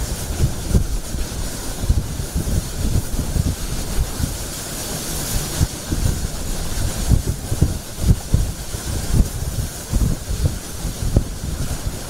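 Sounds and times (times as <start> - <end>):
hiss of driving rain: 0.0 - 12.0
wind gusting against microphone: 0.0 - 12.0.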